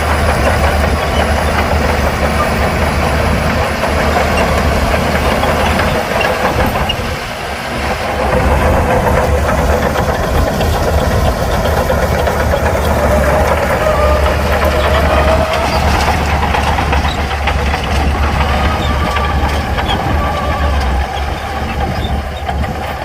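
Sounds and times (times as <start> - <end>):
heavy diesel engine droning: 0.0 - 23.0.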